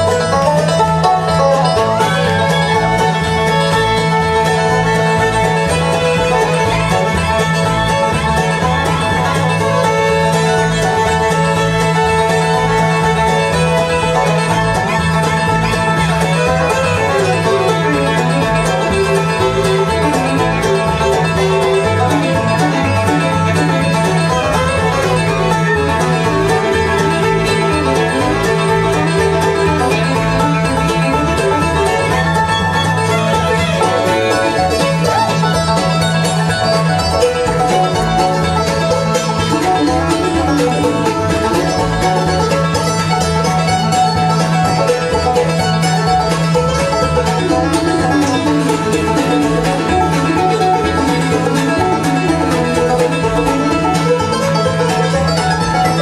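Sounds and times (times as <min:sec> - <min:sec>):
fiddle bowed fast: 0:00.0 - 0:56.0
plucked-string backing with mandolin: 0:00.0 - 0:56.0.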